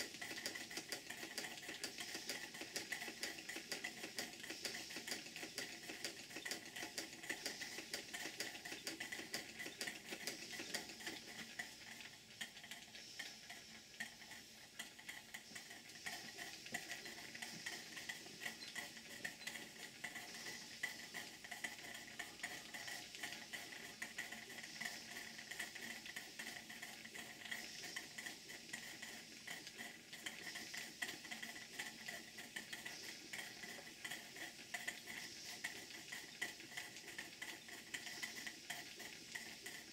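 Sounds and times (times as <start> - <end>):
faint steam hiss: 0.0 - 39.9
steam engine clicking: 0.0 - 39.9.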